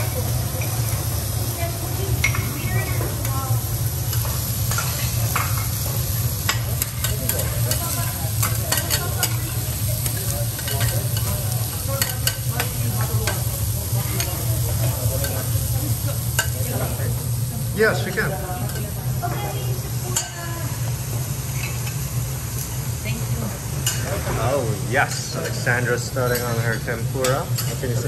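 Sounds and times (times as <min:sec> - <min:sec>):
food sizzling on a griddle: 0:00.0 - 0:28.0.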